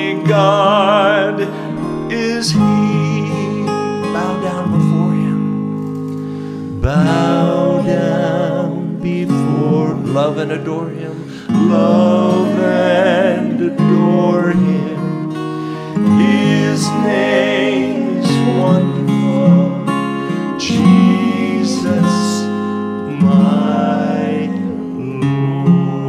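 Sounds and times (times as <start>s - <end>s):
men singing gospel chorus: 0.0s - 5.2s, 6.8s - 26.0s
acoustic guitars strumming: 0.0s - 26.0s.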